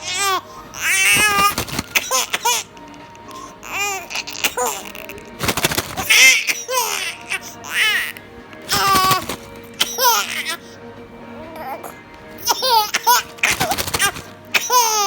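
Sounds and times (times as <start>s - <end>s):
baby laughing and squealing: 0.0s - 2.8s, 3.4s - 10.7s, 11.5s - 15.0s.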